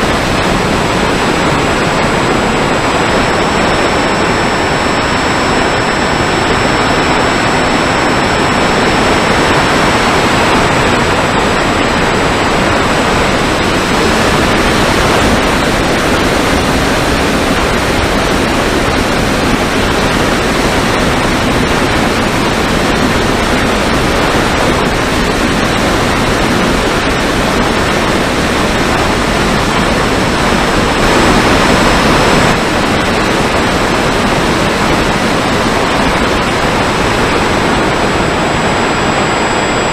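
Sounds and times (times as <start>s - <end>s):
wind and propeller noise: 0.0s - 39.9s.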